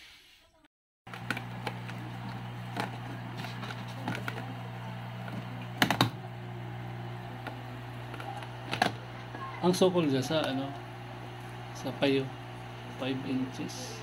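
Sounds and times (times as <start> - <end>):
steady electric hum: 1.1 - 14.0.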